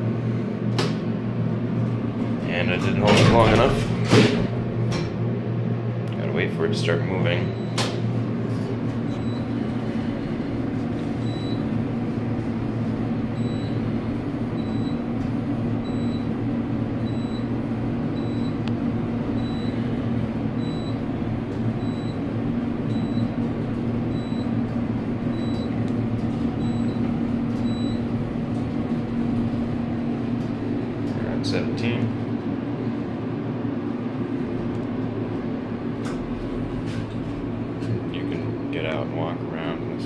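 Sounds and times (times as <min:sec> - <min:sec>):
elevator hum and rumble: 0:00.0 - 0:40.0.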